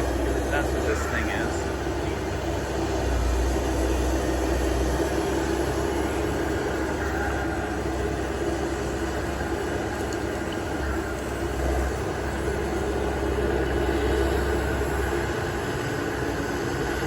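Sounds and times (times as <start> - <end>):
heavy diesel engines rumbling: 0.0 - 17.0.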